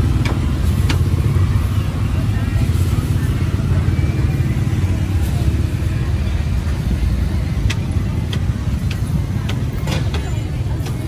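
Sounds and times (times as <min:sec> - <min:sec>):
low rumble of passing vehicles: 0:00.0 - 0:11.0.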